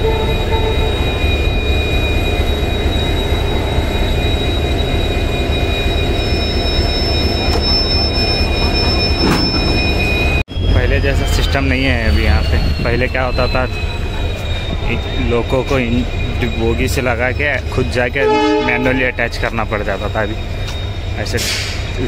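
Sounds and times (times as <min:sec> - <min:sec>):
train rumbling: 0:00.0 - 0:22.0
train wheels squealing: 0:00.0 - 0:22.0.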